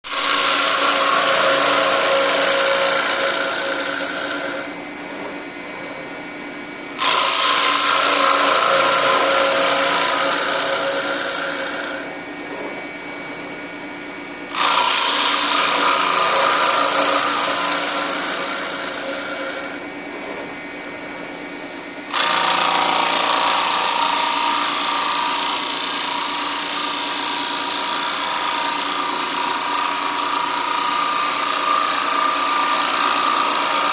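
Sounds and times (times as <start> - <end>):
woodworking power tool cutting: 0.0 - 5.4, 6.9 - 12.9, 14.4 - 19.9, 22.1 - 33.9.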